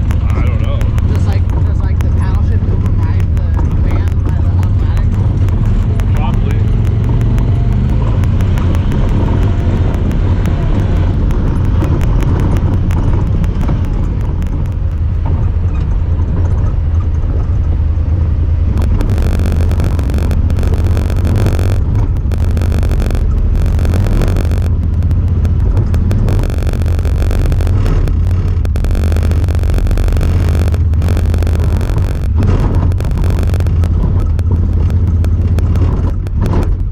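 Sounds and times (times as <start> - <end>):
high-pitched buzzing noise: 0.0 - 15.3, 18.7 - 36.9
vehicle engine rumbling: 0.0 - 36.9.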